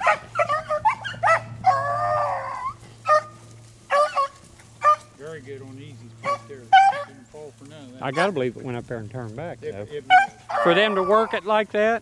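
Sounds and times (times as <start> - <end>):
dogs baying and barking: 0.0 - 11.9.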